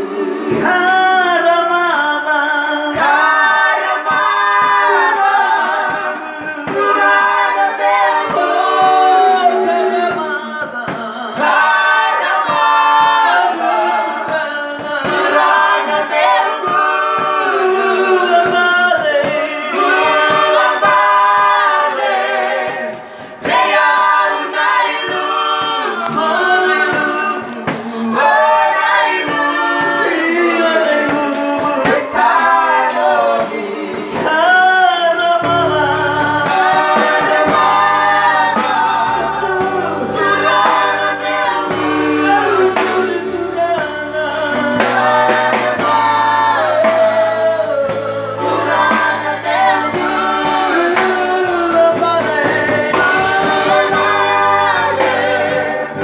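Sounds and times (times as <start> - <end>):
men and women singing together: 0.0 - 56.0.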